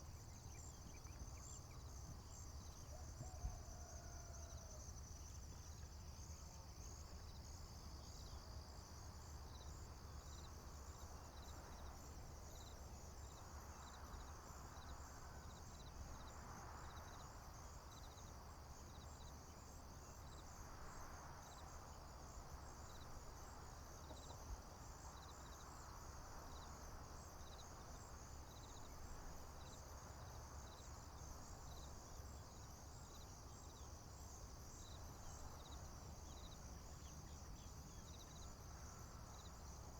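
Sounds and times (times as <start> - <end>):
crickets and insects chorus: 0.0 - 39.9.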